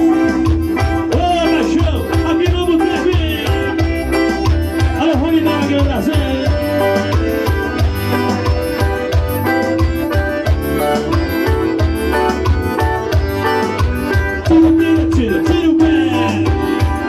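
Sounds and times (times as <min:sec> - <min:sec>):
accordion-like held note: 0:00.0 - 0:17.0
bass and drum beat: 0:00.0 - 0:17.0
wavering melodic line: 0:00.0 - 0:17.0.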